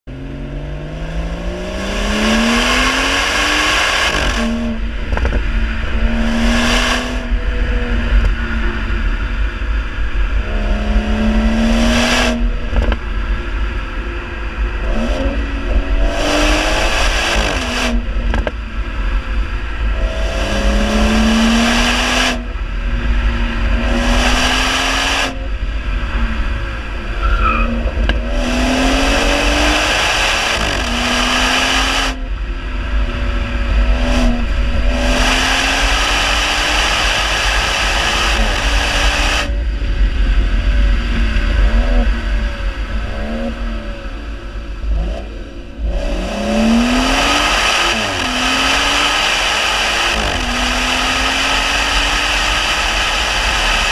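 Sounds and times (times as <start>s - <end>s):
car exhaust accelerating: 0.0s - 53.9s.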